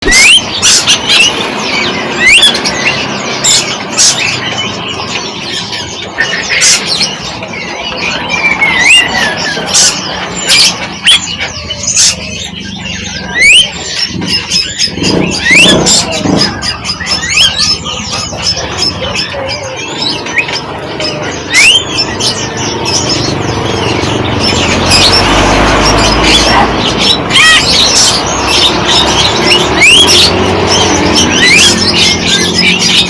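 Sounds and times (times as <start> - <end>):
birds squawking shrilly: 0.0 - 33.0
birds whistling and chattering: 0.0 - 33.0.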